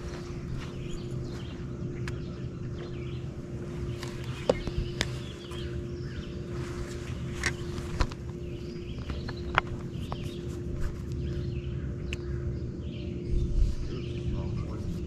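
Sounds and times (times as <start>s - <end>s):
birds chirping: 0.0s - 15.0s
electric motor humming: 0.0s - 15.0s.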